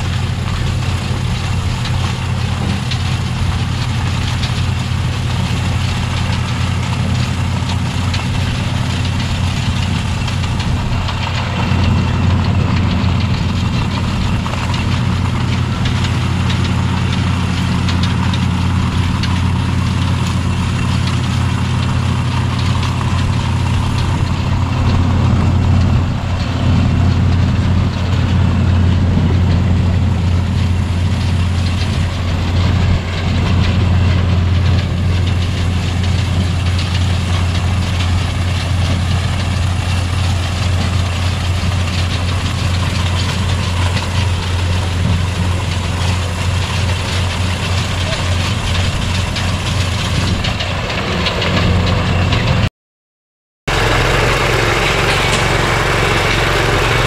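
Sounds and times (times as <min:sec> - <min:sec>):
harvester engine humming: 0:00.0 - 0:52.7, 0:53.7 - 0:57.0
machinery clatter: 0:00.0 - 0:52.7, 0:53.7 - 0:57.0.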